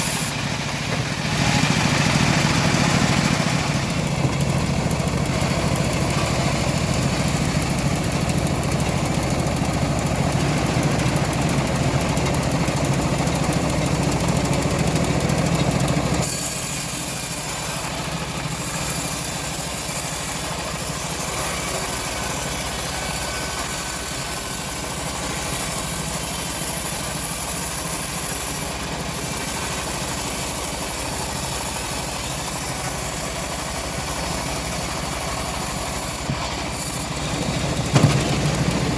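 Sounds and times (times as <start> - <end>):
bandsaw sawmill running: 0.0 - 38.9.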